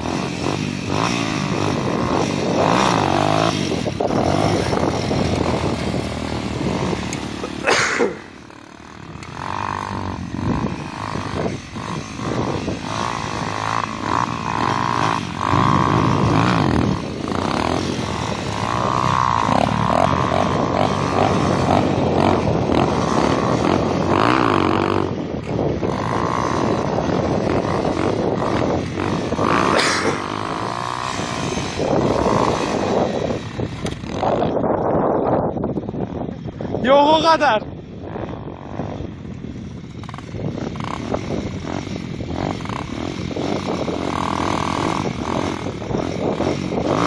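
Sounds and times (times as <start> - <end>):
dirt bike engine revving: 0.0 - 35.5, 36.8 - 47.0.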